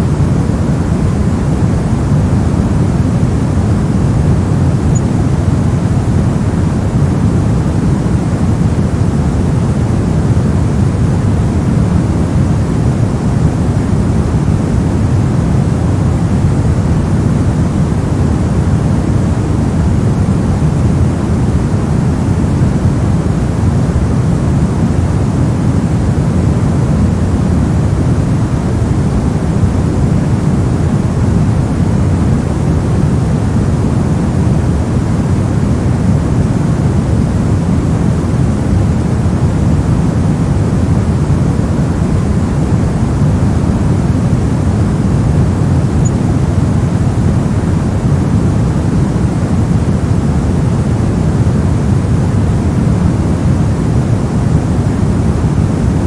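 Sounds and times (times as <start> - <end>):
deep white noise: 0.0 - 56.0.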